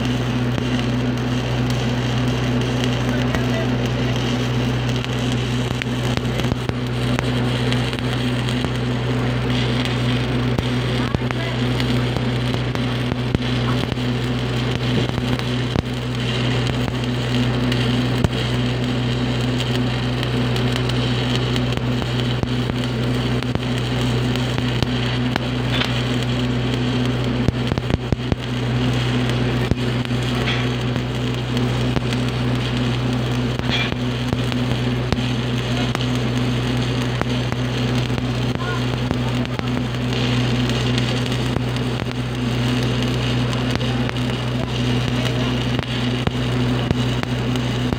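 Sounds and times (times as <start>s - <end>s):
low hum: 0.0s - 47.9s
welding arc crackling: 0.0s - 47.9s.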